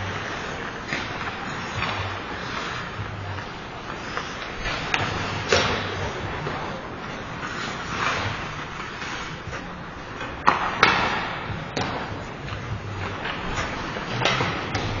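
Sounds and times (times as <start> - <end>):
hockey sticks and puck cracking: 0.0 - 15.0
rink background noise: 0.0 - 15.0.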